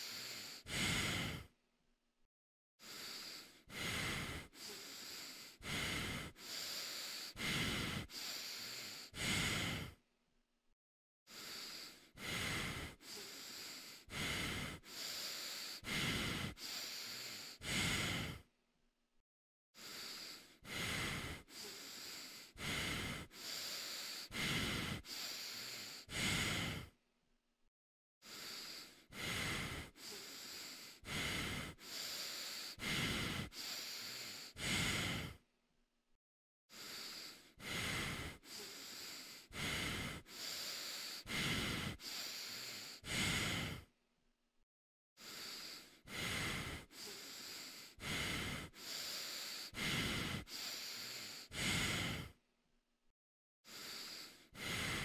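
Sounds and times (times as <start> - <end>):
person breathing in a costume head: 0.0 - 1.7, 2.8 - 10.1, 11.3 - 18.6, 19.7 - 27.0, 28.2 - 35.5, 36.7 - 44.0, 45.2 - 55.0.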